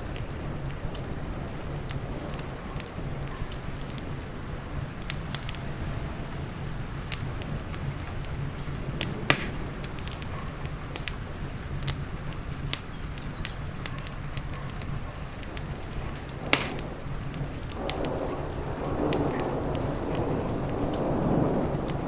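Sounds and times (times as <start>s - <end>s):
rain: 0.0s - 22.0s
wood fire crackling: 0.0s - 22.0s.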